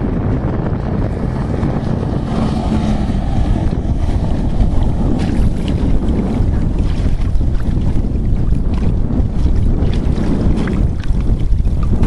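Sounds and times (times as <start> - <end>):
boat engine and hull noise: 0.0 - 12.0
wind rumbling on microphone: 0.0 - 12.0.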